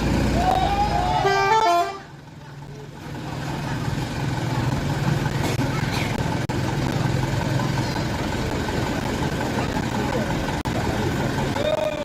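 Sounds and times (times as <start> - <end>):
road and traffic noise: 0.0 - 12.0
truck engine humming: 0.0 - 12.0.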